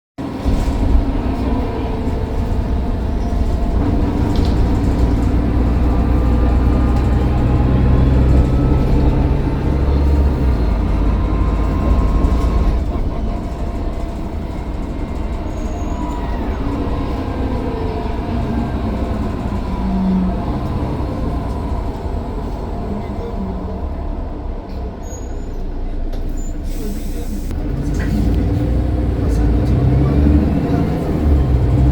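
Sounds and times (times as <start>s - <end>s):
bus diesel engine pulling: 0.2s - 31.9s.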